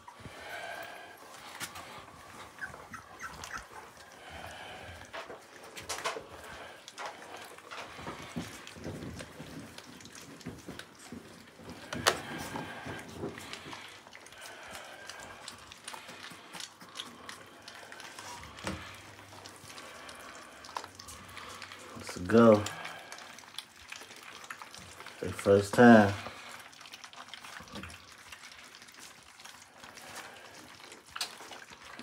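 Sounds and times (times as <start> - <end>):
puppies lapping food: 0.0 - 32.0.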